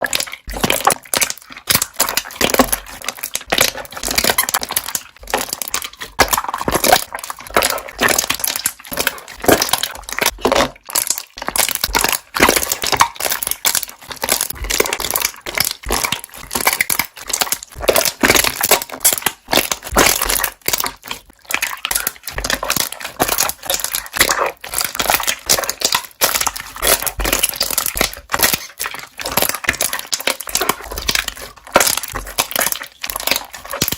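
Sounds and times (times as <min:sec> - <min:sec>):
air bubbles popping and crackling: 0:00.0 - 0:33.9
slime squished by hand: 0:00.0 - 0:33.9.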